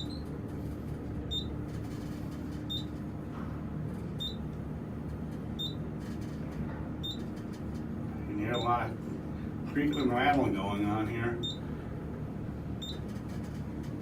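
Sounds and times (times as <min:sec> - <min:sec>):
elevator humming: 0:00.0 - 0:14.0.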